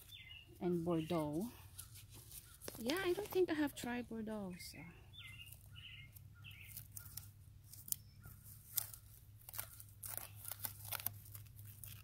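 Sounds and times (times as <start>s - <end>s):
hands crackling and rustling soil: 0.0s - 4.3s, 5.1s - 12.0s.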